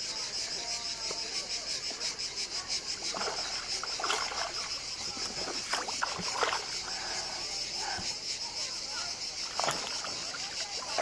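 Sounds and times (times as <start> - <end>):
insects chirring: 0.0 - 11.0
water splashes: 1.0 - 11.0.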